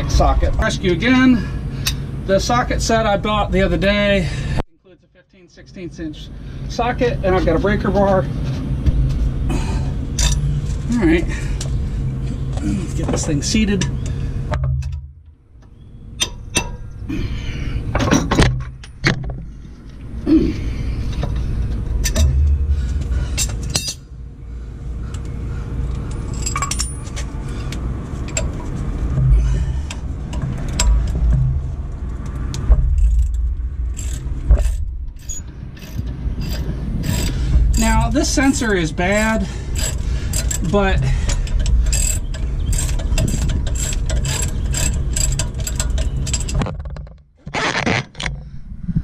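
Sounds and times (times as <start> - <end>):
low steady rumble: 0.0 - 49.0.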